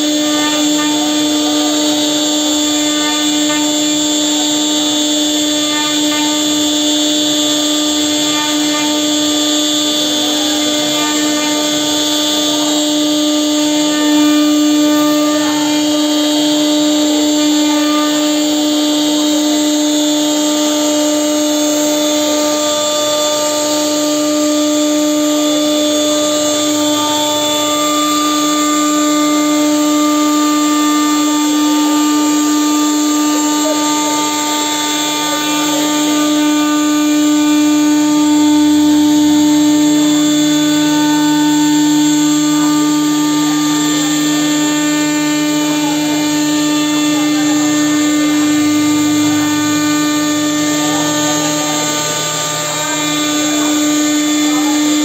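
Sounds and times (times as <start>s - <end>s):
router bit cutting wood: 0.0s - 55.0s
router spindle whine: 0.0s - 55.0s.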